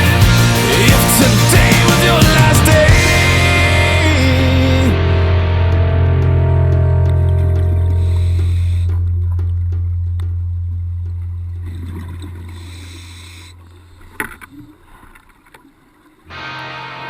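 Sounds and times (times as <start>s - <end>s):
low steady drone: 0.0s - 13.9s.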